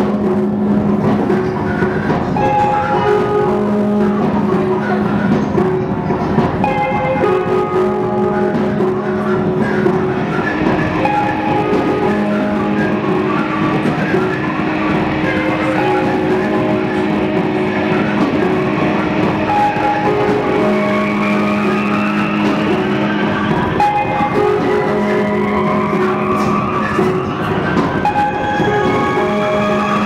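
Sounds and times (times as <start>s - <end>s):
instrumental music with held notes: 0.0s - 30.0s
plucked string: 0.0s - 30.0s
rising tone: 0.0s - 30.0s.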